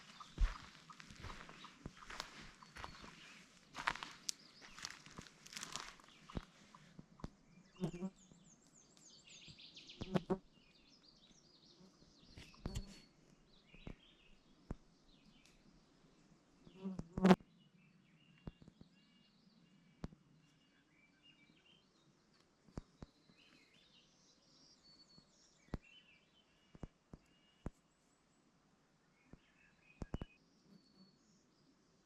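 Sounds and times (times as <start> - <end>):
faint bird chirps: 0.0 - 28.2, 29.0 - 32.0.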